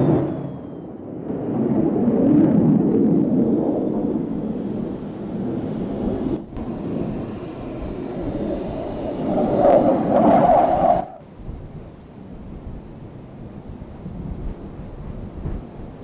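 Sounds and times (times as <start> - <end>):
jet engine rumble and whine: 0.0 - 16.0
wind on microphone: 0.0 - 16.0.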